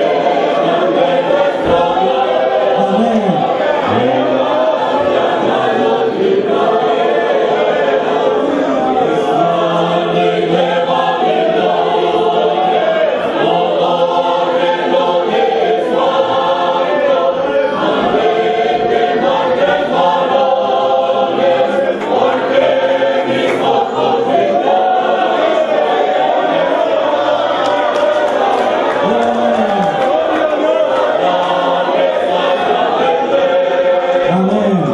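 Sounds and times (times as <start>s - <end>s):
choir singing gospel: 0.0s - 34.9s.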